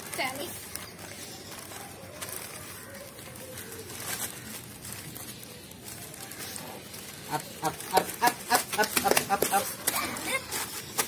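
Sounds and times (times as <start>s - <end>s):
newspaper rustling: 0.0s - 11.0s.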